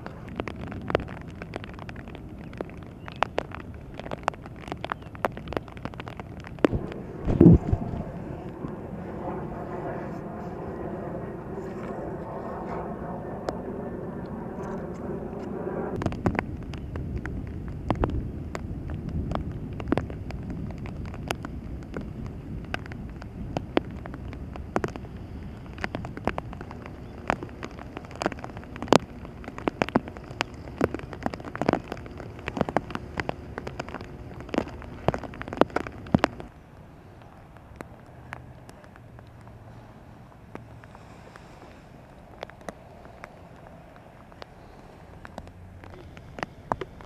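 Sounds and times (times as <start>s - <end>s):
large raindrops tapping: 0.0s - 12.2s, 16.0s - 47.0s
rain falling: 0.0s - 15.3s, 16.0s - 47.0s
engine drone: 0.0s - 47.0s.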